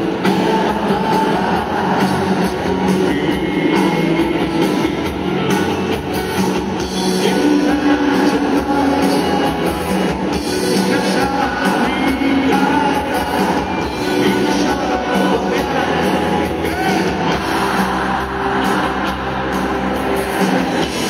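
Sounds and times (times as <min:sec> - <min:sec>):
person singing: 0:00.0 - 0:05.5, 0:06.8 - 0:21.0
pop-rock band playing live: 0:00.0 - 0:21.0.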